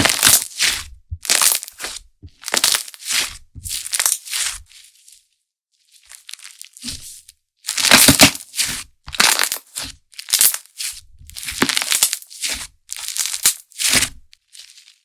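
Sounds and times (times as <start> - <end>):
slime squishing: 0.0 - 4.8, 6.1 - 14.9.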